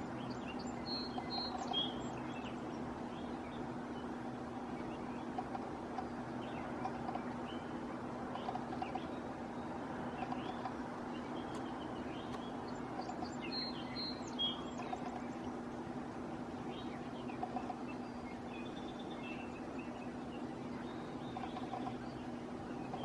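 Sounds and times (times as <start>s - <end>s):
bird chirps and calls: 0.0s - 23.0s
low background hum: 0.0s - 23.0s.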